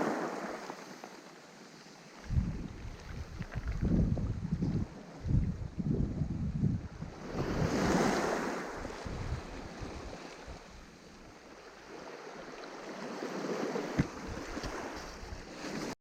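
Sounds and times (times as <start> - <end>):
waves washing on shore: 0.0 - 16.0.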